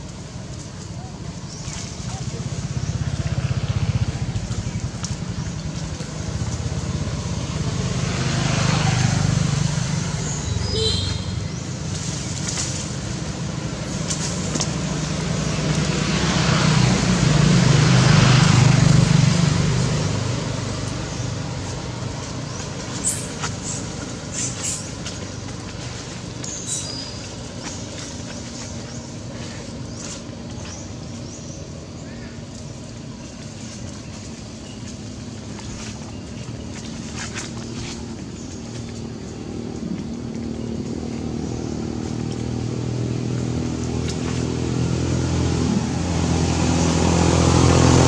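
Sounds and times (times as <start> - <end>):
motor vehicles passing: 0.0 - 48.0.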